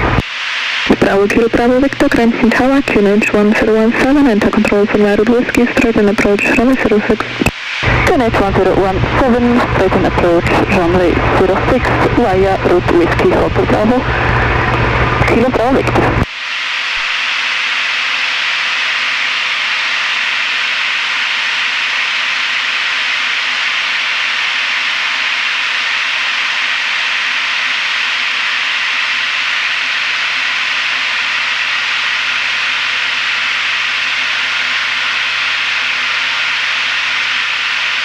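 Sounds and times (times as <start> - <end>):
airplane cabin engine hiss: 0.0 - 38.0.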